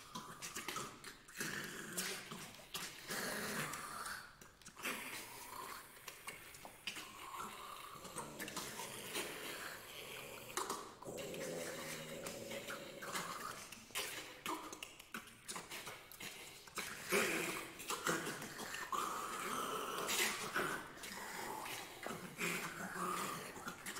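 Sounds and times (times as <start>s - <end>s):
singers making breath and mouth sounds: 0.0s - 23.9s.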